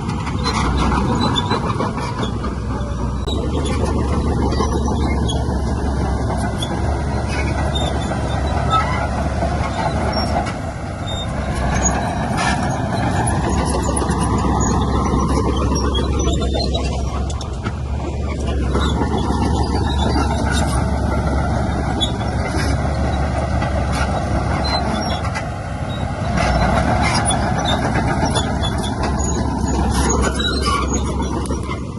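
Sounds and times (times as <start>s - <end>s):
heavy diesel engine running: 0.0s - 31.9s.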